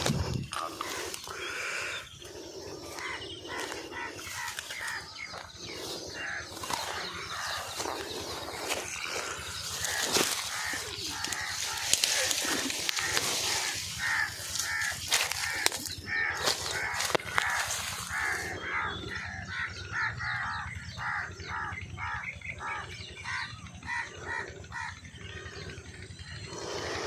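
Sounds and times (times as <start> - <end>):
crows cawing: 0.0 - 27.0.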